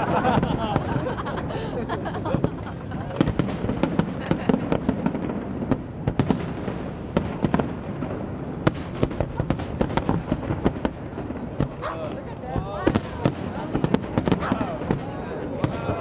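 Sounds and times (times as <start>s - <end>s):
fireworks cracking: 0.0s - 16.0s.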